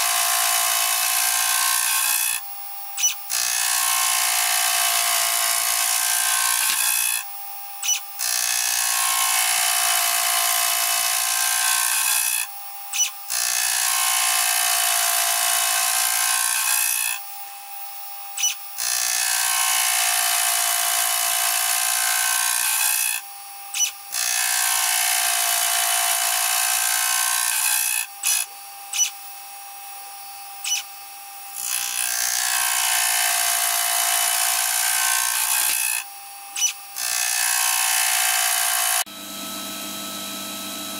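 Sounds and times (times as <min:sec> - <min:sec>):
high-pitched metal cutting: 0:00.0 - 0:17.2, 0:18.2 - 0:40.9.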